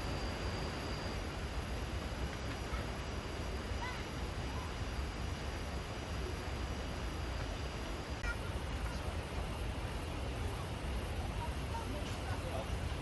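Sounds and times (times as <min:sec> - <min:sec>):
constant high hiss: 0:00.0 - 0:13.0.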